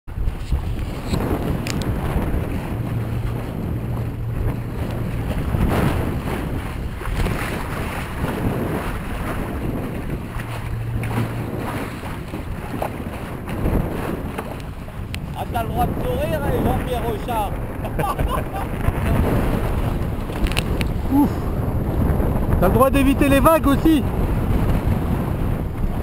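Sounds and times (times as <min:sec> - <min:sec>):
water splashing against hulls: 0:00.1 - 0:26.0
wind on microphone: 0:00.1 - 0:26.0.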